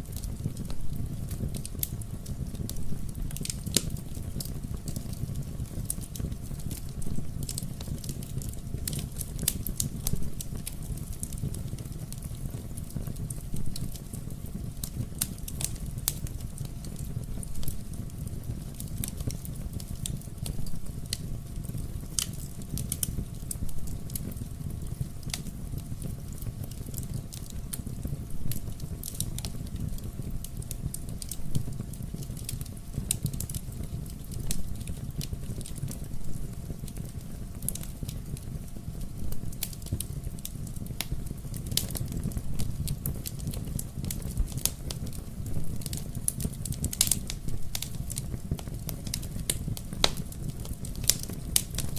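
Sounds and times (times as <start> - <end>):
fire crackles and pops: 0.0 - 51.9
low rumble of fire flames: 0.0 - 51.9.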